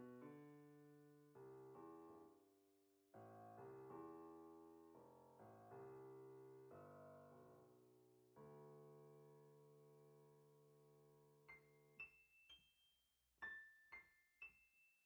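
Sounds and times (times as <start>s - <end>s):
soft piano chords: 0.0s - 12.2s.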